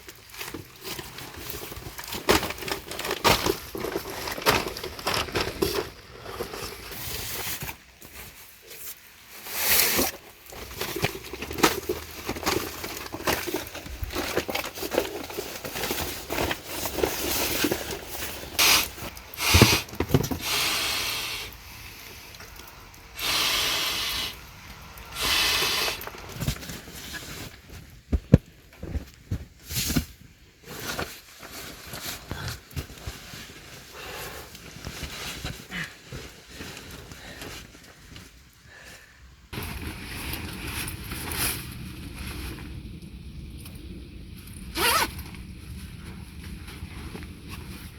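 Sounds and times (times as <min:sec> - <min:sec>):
rustling and scraping: 0:00.0 - 0:20.9, 0:24.6 - 0:38.8, 0:39.5 - 0:43.0, 0:44.5 - 0:47.9.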